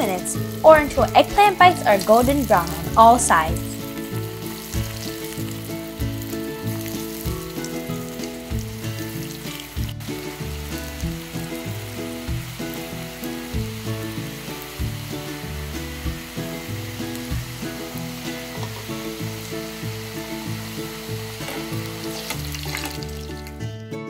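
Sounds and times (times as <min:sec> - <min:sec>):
food deep-frying in oil: 0:00.0 - 0:23.6
background music with bass line: 0:00.0 - 0:24.0.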